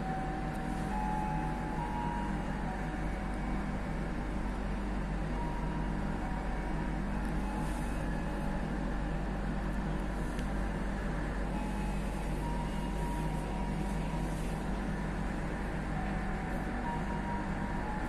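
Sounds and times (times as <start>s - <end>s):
train running rumble and hum: 0.0s - 18.0s.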